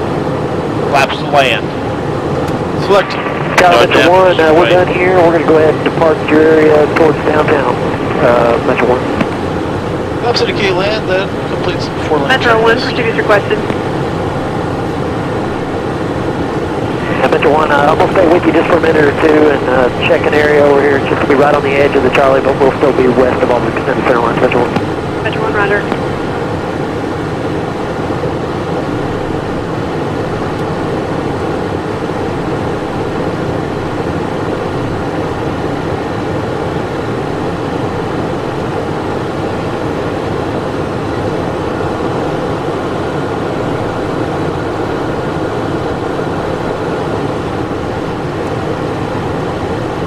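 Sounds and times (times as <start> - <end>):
faint high whine: 0.0 - 50.0
jet engine cockpit hum: 0.0 - 50.0.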